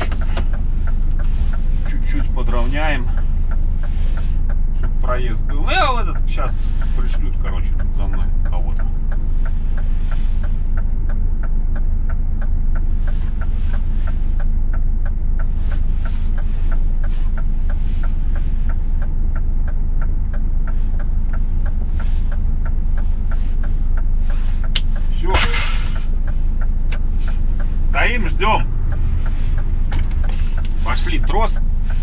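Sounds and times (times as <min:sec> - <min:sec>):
indicator ticking: 0:00.0 - 0:32.0
truck engine low hum: 0:00.0 - 0:32.0.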